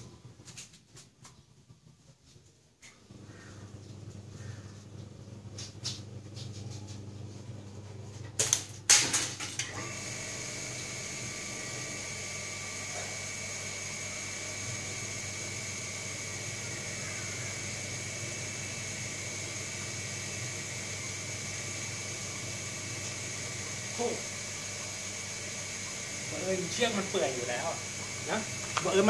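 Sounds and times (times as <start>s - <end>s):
mechanical hum with high whine: 2.8s - 29.0s.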